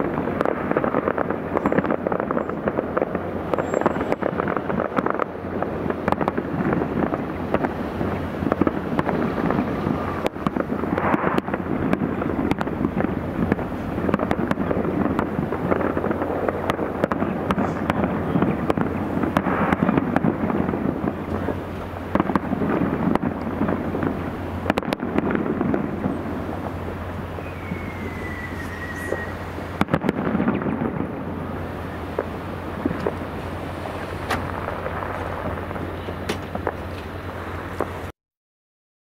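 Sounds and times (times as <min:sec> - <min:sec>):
fireworks bursting and crackling: 0:00.0 - 0:38.1.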